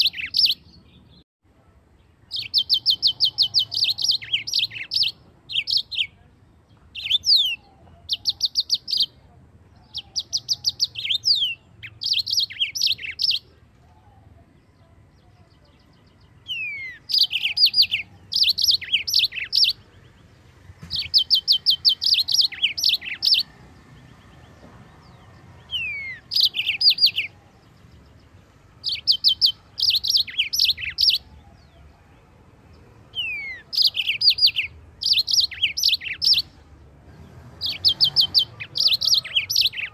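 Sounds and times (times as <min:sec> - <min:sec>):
canary singing trills and whistles: 0:00.0 - 0:01.2, 0:02.3 - 0:06.2, 0:06.9 - 0:32.0, 0:33.1 - 0:39.9.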